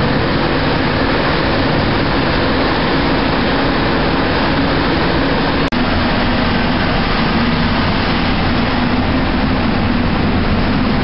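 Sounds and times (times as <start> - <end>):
heavy machinery drone: 0.0 - 11.0
low hum: 0.0 - 11.0.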